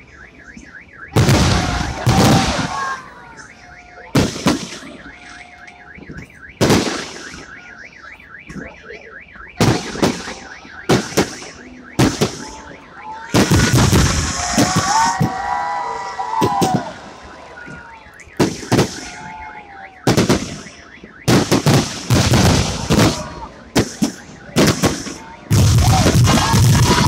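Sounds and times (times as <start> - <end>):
fireworks whistling: 0.0 - 27.0
warbling alarm tone: 0.0 - 27.0
fireworks exploding: 1.1 - 8.8, 9.4 - 27.0.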